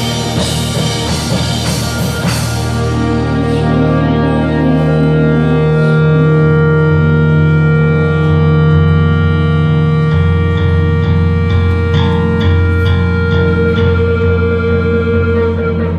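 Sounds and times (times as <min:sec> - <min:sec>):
bass guitar line: 0:00.0 - 0:15.9
organ-like chords: 0:00.0 - 0:15.9.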